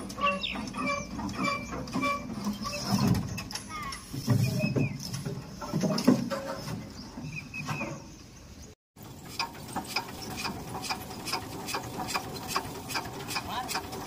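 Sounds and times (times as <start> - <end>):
metal squeaks and clanks: 0.0 - 8.2, 9.0 - 14.0.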